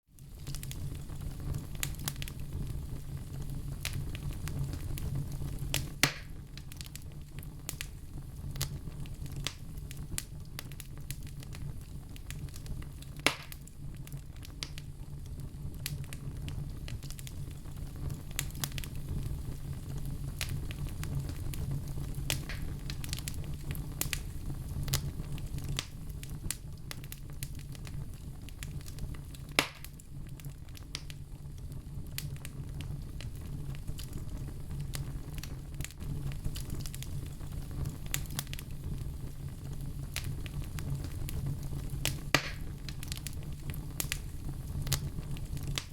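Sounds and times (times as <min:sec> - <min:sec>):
fire crackling in a stove: 0:00.0 - 0:45.9
sharp pops of fire: 0:00.2 - 0:45.9.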